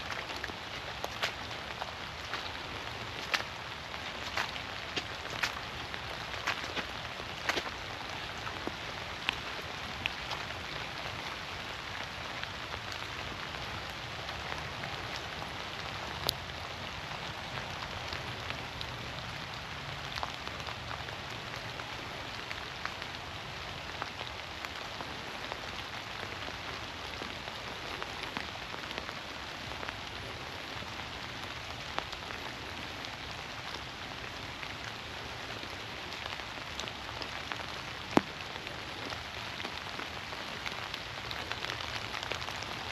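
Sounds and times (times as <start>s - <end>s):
rain falling through trees: 0.0s - 42.9s.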